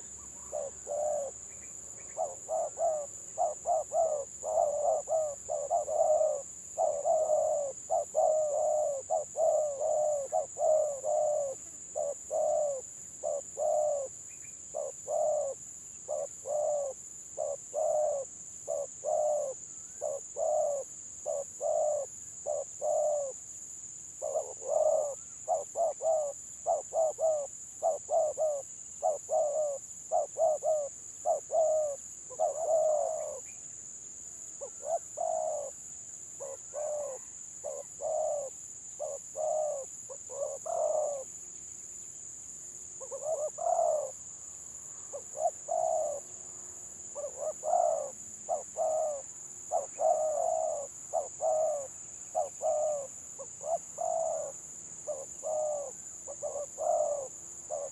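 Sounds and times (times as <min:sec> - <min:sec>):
doves cooing: 0:00.0 - 0:23.4, 0:24.2 - 0:33.6, 0:34.6 - 0:35.8, 0:36.4 - 0:41.4, 0:43.0 - 0:44.2, 0:45.0 - 0:46.4, 0:47.1 - 0:57.9.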